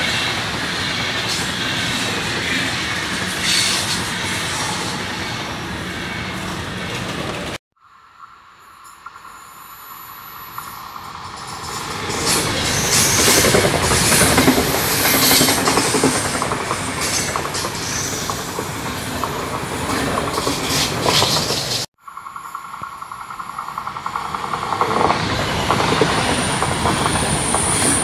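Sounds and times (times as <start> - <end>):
train passing at speed: 0.0 - 7.6, 8.8 - 28.0.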